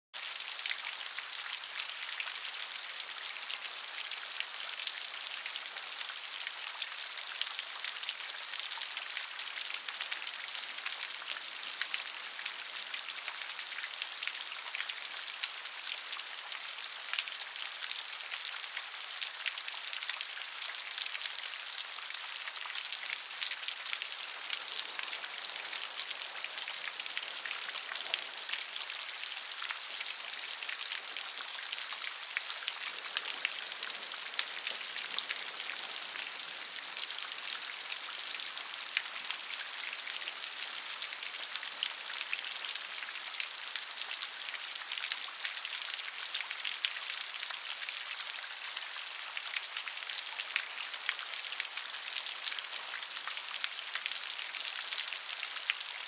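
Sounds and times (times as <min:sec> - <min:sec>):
rain on a hard surface: 0:00.2 - 0:56.0.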